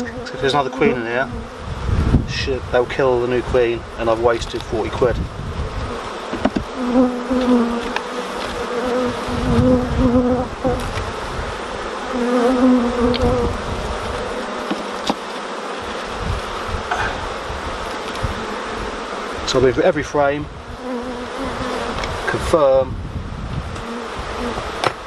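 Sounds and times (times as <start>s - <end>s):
bees passing close by: 0.0s - 25.0s
honeybees buzzing: 0.0s - 25.0s.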